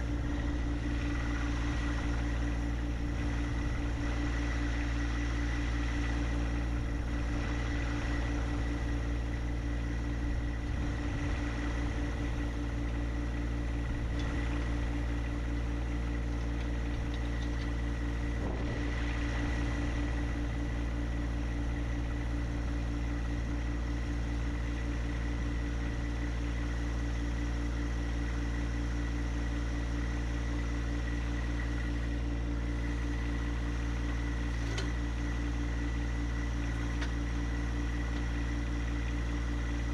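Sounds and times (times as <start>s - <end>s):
engine humming steadily: 0.0s - 39.9s.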